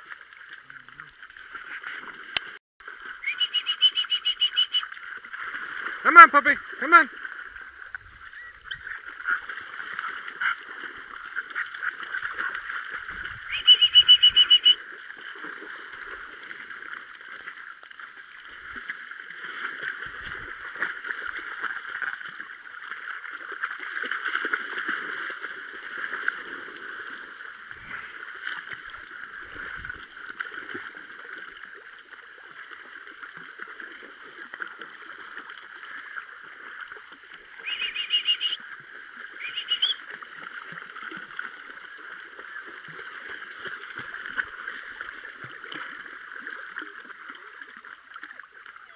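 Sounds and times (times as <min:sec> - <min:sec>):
water splashing and swishing: 0:00.0 - 0:48.9.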